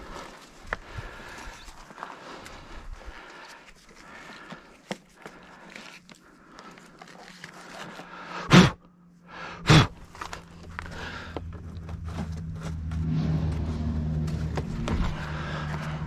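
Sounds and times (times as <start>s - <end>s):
low steady hum: 0.1s - 16.0s.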